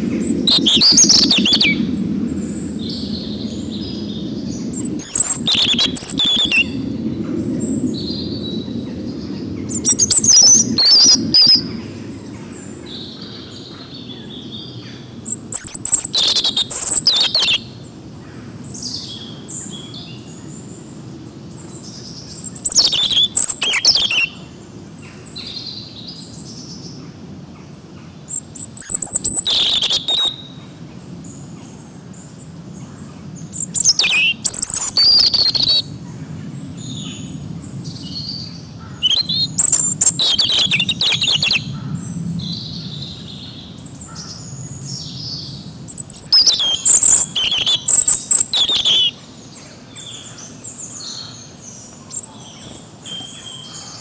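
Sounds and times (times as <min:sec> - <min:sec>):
faint bird calls: 0:00.0 - 0:20.6, 0:21.5 - 0:30.9, 0:31.6 - 0:54.0
robin singing warbles and trills: 0:00.0 - 0:27.0, 0:27.6 - 0:54.0.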